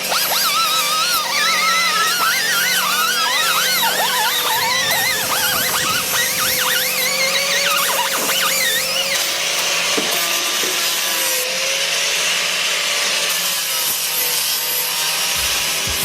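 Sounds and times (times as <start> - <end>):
power tool running: 0.0 - 16.0.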